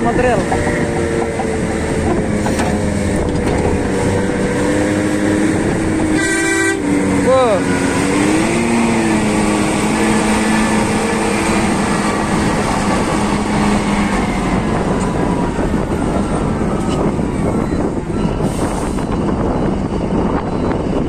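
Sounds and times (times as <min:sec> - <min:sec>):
bulldozer working: 0:00.0 - 0:21.0
haul truck engine rumbling: 0:00.0 - 0:21.0.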